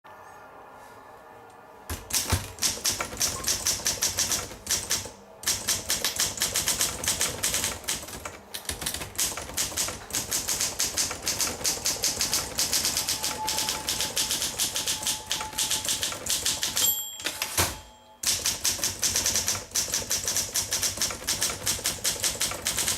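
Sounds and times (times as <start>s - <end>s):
manual typewriter keystrokes: 1.9s - 22.9s.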